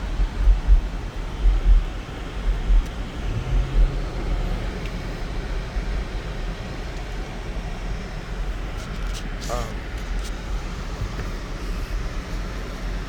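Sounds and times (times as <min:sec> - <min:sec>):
car tyres rumbling on road: 0:00.0 - 0:13.0.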